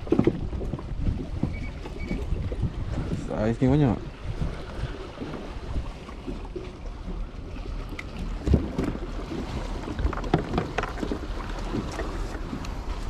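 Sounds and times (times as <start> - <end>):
water slapping against kayak hull: 0.0 - 13.0
wind rumbling on microphone: 0.0 - 13.0.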